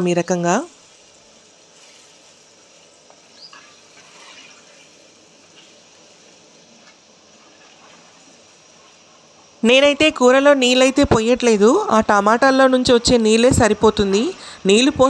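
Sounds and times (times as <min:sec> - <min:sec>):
faint wet simmer: 0:00.0 - 0:15.0.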